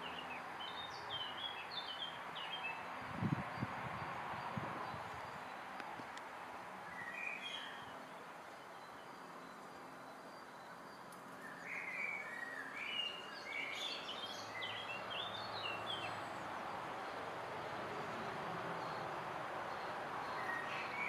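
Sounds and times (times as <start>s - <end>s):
outdoor background noise: 0.0s - 21.0s
songbird chirping: 0.0s - 21.0s.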